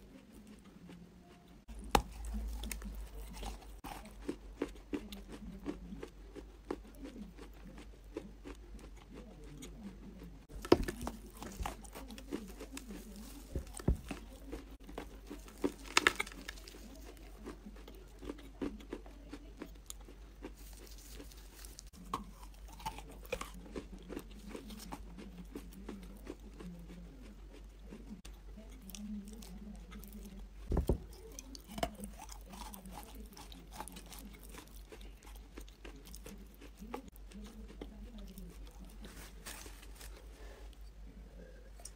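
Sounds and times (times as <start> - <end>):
crunchy chewing of clay: 0.0 - 41.9.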